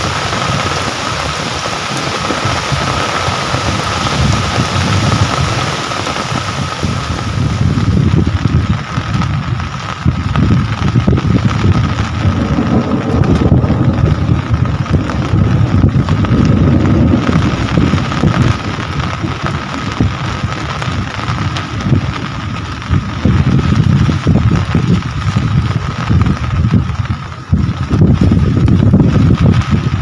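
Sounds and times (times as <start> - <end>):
deep rumble: 0.0 - 30.0
heavy rain falling: 0.0 - 30.0.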